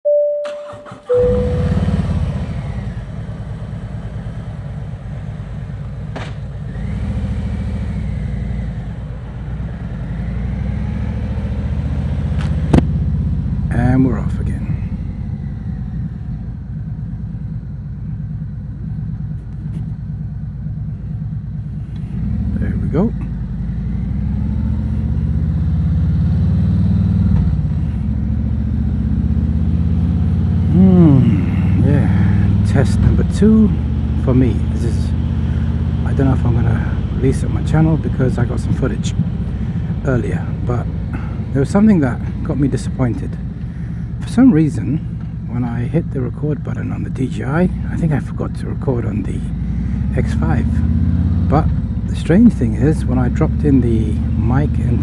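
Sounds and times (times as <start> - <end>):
motorcycle engine running: 1.0 - 55.0.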